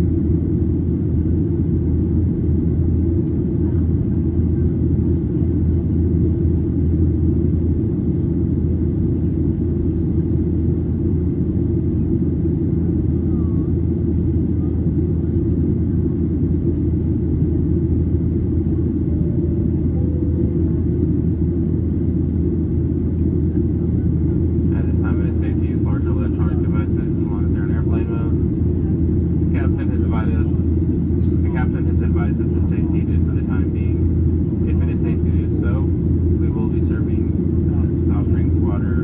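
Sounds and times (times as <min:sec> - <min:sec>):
airplane cabin drone: 0:00.0 - 0:39.0.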